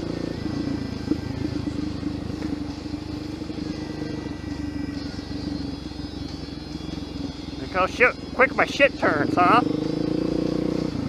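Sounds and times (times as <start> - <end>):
dirt motorcycle engine running: 0.0 - 11.0.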